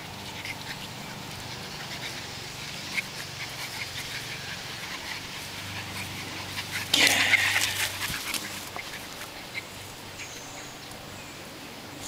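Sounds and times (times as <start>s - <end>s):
dog making faint sounds: 0.0s - 10.5s
steady low hum: 0.0s - 12.0s.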